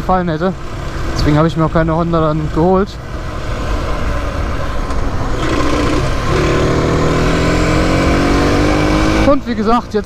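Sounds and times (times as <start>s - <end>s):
motorcycle engine accelerating: 0.6s - 9.9s.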